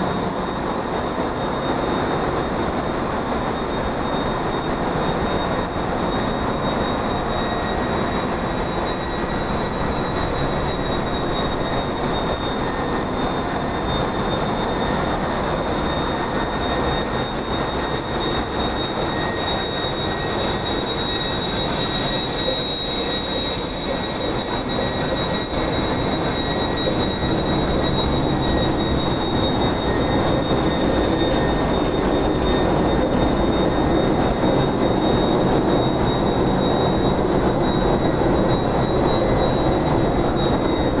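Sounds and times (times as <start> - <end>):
engine room machinery: 0.0 - 41.0
high machine whines: 0.0 - 41.0.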